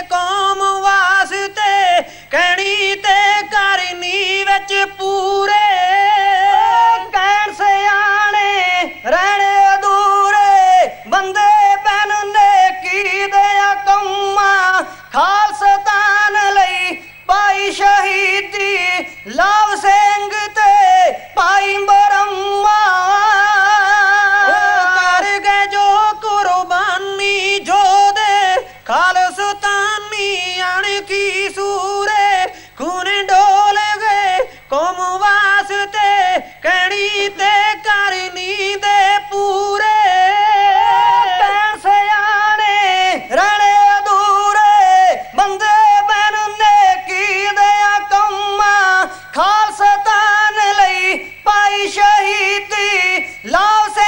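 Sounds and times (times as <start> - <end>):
men singing through a microphone: 0.0 - 54.0.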